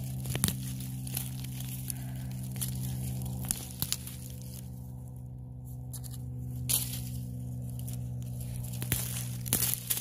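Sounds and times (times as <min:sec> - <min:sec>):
crackles and scrapes of digging: 0:00.0 - 0:10.0
steady low hum: 0:00.0 - 0:10.0.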